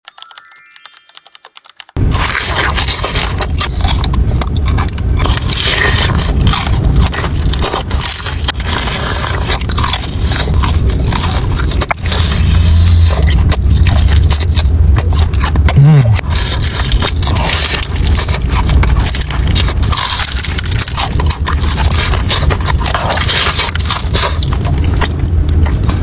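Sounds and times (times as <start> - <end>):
crunchy chewing: 2.0 - 26.0.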